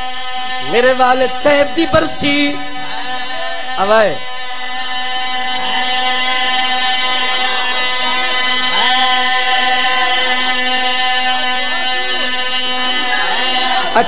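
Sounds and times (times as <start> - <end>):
man singing long held note: 0.0 - 14.0.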